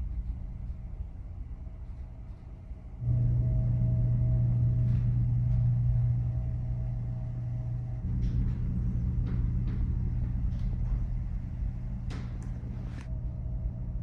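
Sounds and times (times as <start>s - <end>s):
faint steady hum: 0.0s - 14.0s
ferry engines droning: 0.0s - 14.0s.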